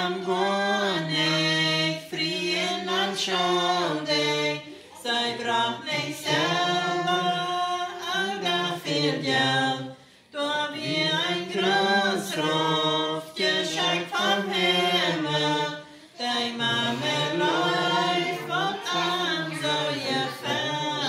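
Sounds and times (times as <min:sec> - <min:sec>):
choir singing a hymn: 0:00.0 - 0:21.0.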